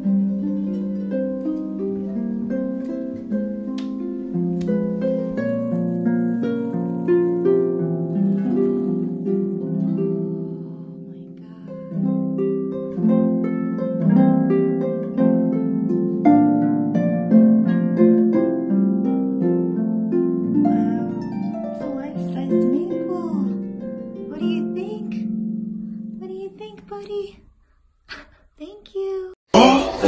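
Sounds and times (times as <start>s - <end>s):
plucked string melody: 0.0s - 27.2s.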